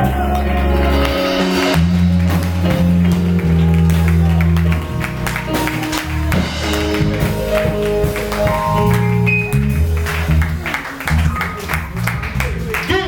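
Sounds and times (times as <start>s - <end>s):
held keyboard notes: 0.0s - 12.8s
bass line: 0.0s - 13.0s
steady percussion beat: 1.2s - 13.0s.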